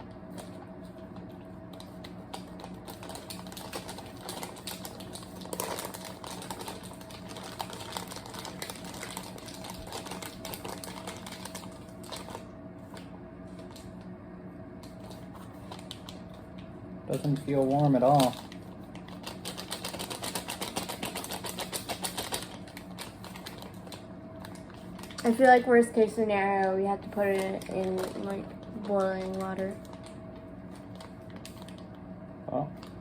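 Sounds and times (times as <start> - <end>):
faint steady hum: 0.0 - 33.0
plastic pouches crinkling: 1.6 - 14.0, 14.8 - 16.5, 17.1 - 31.9.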